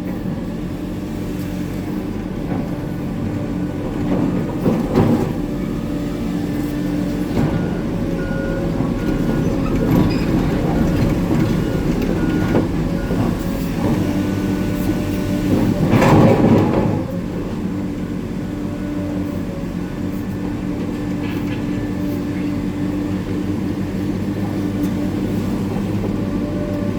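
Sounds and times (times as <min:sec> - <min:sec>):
excavator diesel engine working: 0:00.0 - 0:26.9.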